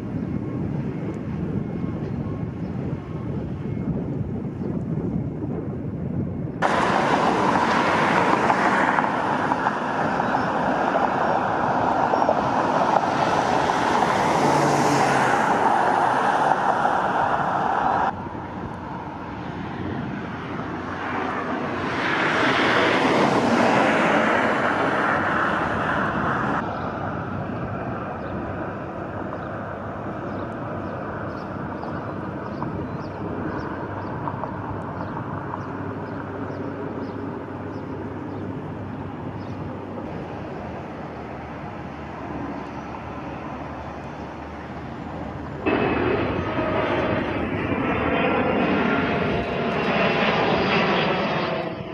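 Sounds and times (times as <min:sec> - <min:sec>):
passing vehicles rushing: 0:06.6 - 0:51.9.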